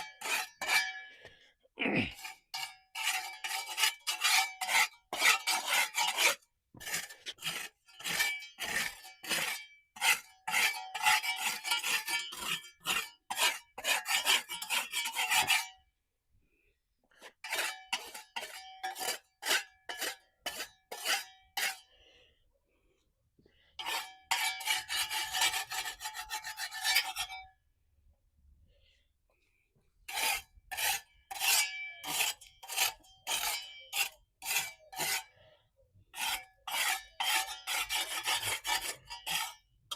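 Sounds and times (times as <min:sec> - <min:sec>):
scraping mortar off concrete: 0:00.0 - 0:01.0, 0:01.8 - 0:15.8, 0:17.1 - 0:21.9, 0:23.7 - 0:27.4, 0:30.1 - 0:35.4, 0:36.1 - 0:39.8.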